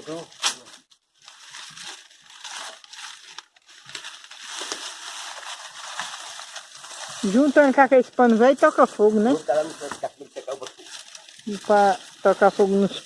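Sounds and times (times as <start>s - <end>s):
dry straw rustling: 0.0s - 13.0s.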